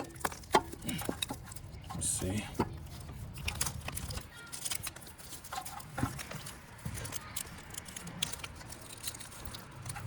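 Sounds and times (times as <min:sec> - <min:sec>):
metal parts knocking and clicking: 0:00.0 - 0:10.0.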